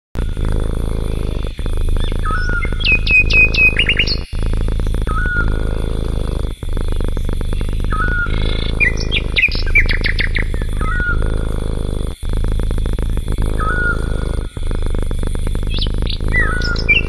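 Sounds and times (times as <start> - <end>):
songbirds chirping: 0.2 - 17.0
steady low rumble: 0.2 - 17.0.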